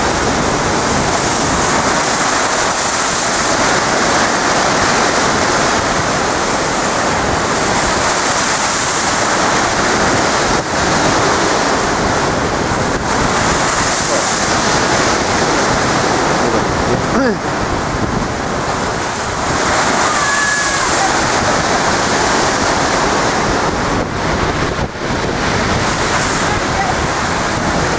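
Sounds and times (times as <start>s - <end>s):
waves breaking against sea wall: 0.0s - 27.9s
wind on microphone: 0.0s - 27.9s.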